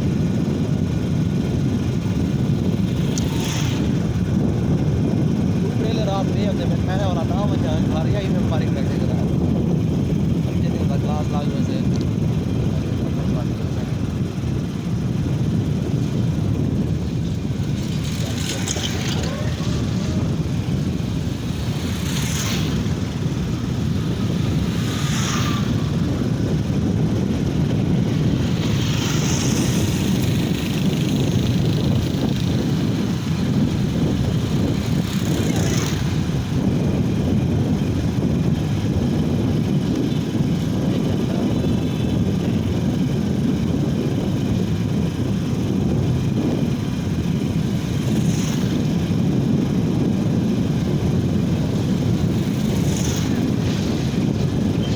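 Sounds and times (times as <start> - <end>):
diesel engine droning: 0.0 - 54.9.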